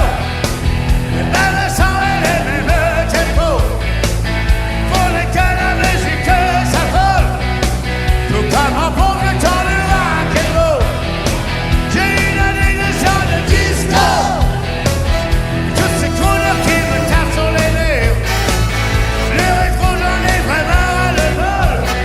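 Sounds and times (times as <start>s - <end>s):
upbeat rock and roll music: 0.0s - 22.0s.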